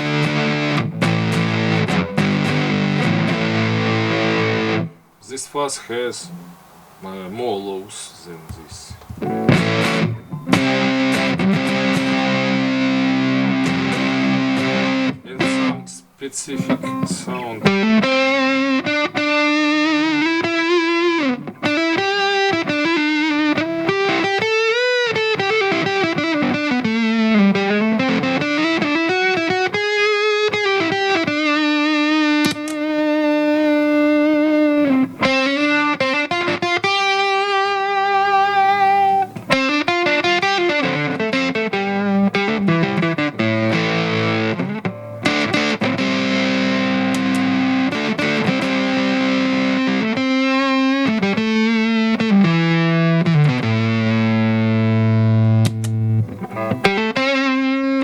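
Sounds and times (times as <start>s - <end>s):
fuzz electric guitar lead: 0.0s - 5.1s, 5.9s - 6.7s, 8.5s - 58.0s.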